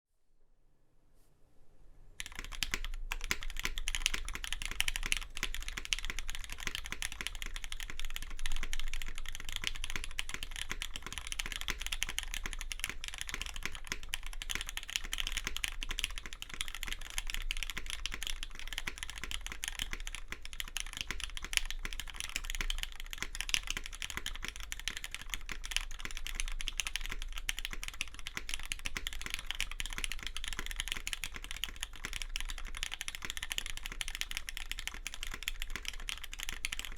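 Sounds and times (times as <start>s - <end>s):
mechanical keyboard keystroke clacks: 2.2s - 36.9s.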